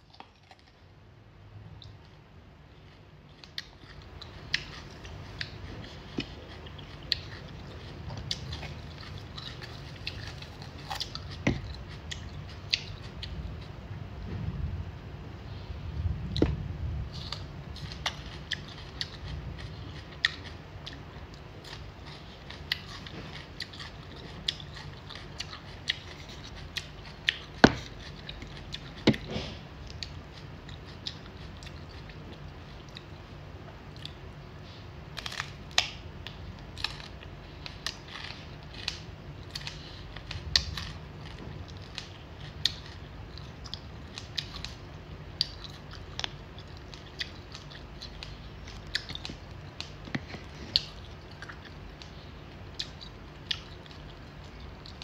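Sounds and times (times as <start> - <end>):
crunching raw vegetables: 1.7 - 13.8, 16.2 - 55.0.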